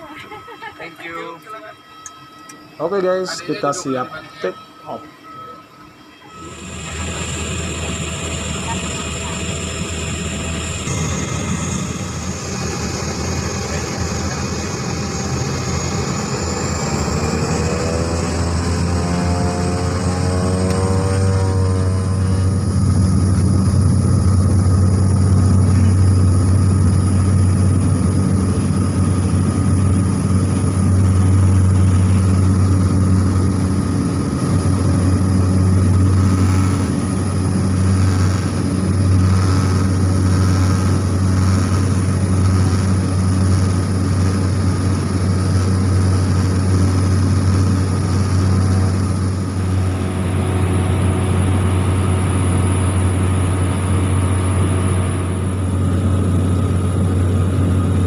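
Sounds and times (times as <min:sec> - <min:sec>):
propeller airplane engine: 0:06.2 - 0:58.0.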